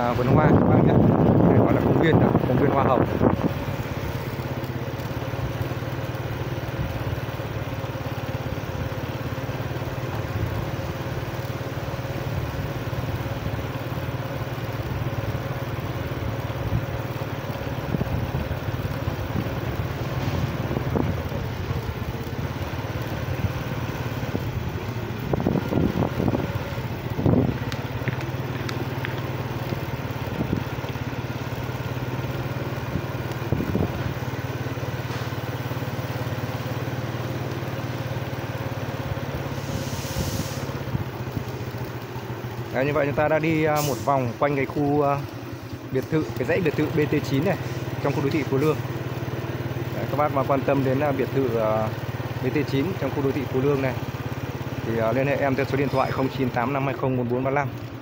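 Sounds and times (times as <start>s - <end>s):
small motorbike engine running: 0.0s - 58.0s.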